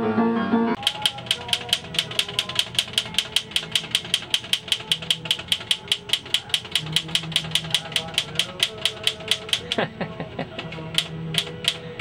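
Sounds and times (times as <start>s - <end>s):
typewriter typing: 0.8s - 9.8s, 10.5s - 12.0s.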